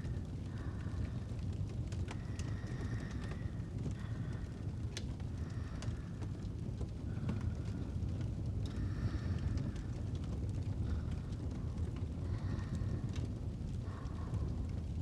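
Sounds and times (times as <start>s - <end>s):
fire burning low rumble: 0.0s - 15.0s
fire crackling pops: 0.0s - 15.0s.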